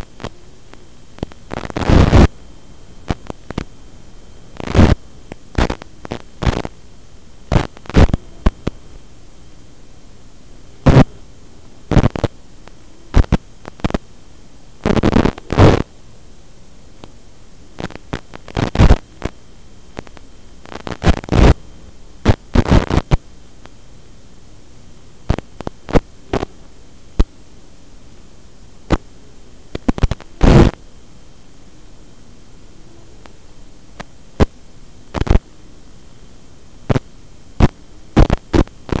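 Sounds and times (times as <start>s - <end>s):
bursts of crackling static: 0.0s - 39.0s
receiver hiss and hum: 0.0s - 39.0s.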